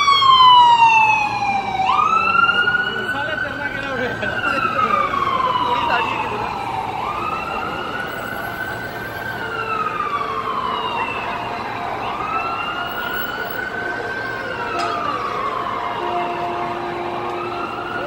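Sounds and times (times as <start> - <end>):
city street noise: 0.0 - 18.0
emergency siren wailing: 0.0 - 18.0.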